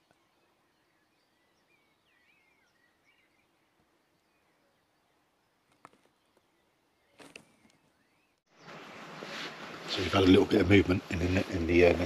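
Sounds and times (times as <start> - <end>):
distant songbird chirps: 0.0 - 10.6.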